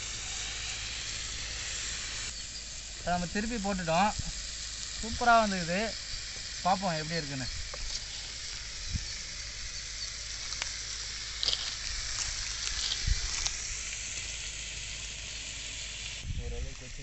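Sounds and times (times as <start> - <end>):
chicken sizzling on a hot pan: 0.0 - 17.0.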